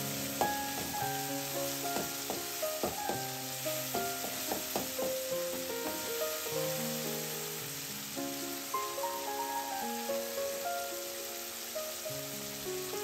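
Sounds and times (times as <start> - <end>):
background music with held notes: 0.0 - 13.0
vegetables sizzling in oil: 0.0 - 13.0.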